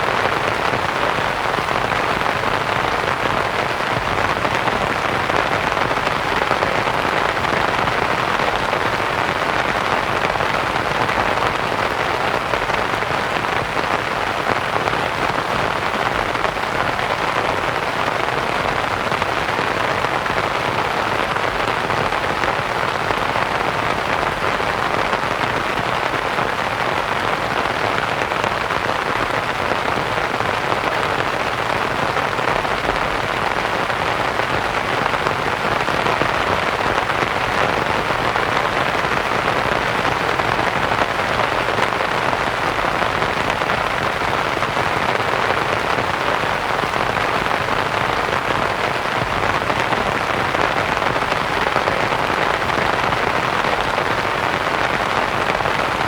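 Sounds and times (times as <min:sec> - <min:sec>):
rain pattering on canvas tent: 0:00.0 - 0:56.0.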